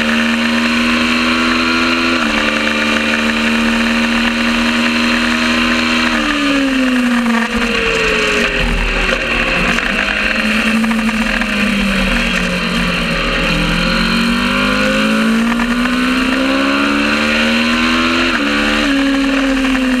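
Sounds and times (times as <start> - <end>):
gear upshift: 0.0 - 20.0
motorcycle engine revving: 0.0 - 20.0.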